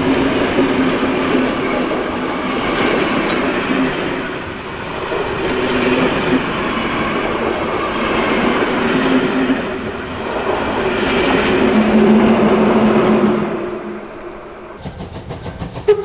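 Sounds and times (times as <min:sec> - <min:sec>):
diesel locomotive engine hum: 0:00.0 - 0:16.0
train wheels rumbling on rails: 0:00.0 - 0:16.0.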